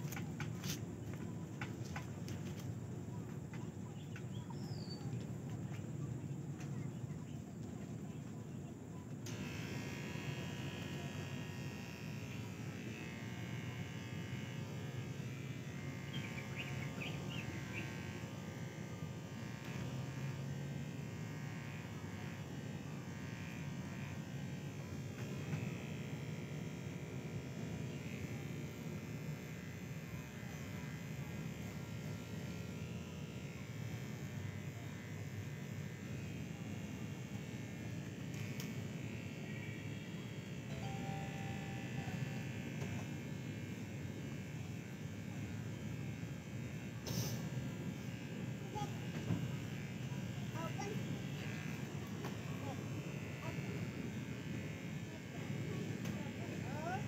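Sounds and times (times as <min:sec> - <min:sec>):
electric hair clippers running: 0:09.2 - 0:57.0.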